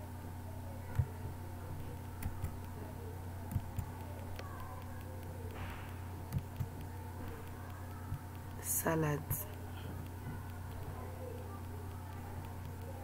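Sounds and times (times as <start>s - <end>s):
low electrical hum: 0.0s - 13.0s
computer keyboard keystrokes: 1.8s - 2.8s, 3.5s - 13.0s.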